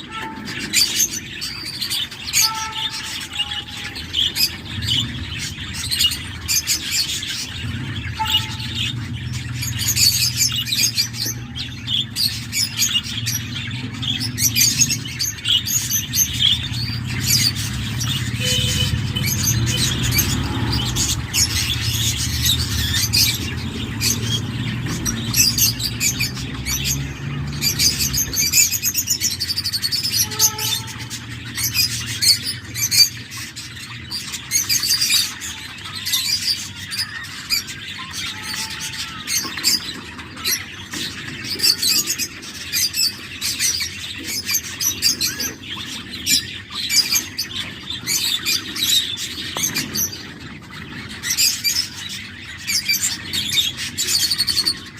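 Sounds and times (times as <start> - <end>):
chicks chirping: 0.0 - 54.9.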